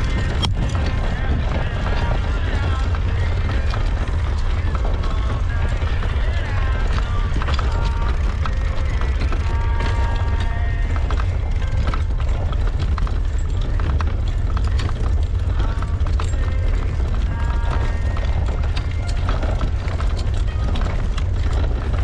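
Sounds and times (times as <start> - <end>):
tyres clattering on cobblestones: 0.0 - 22.0
wind rumble on microphone: 0.0 - 22.0.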